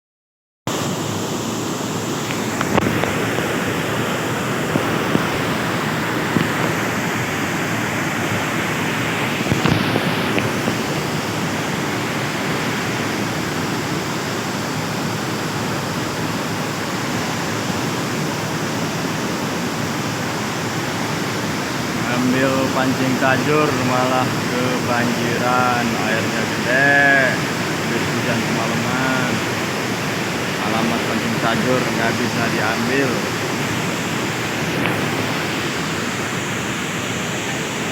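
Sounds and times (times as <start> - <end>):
river rushing: 0.7 - 37.9.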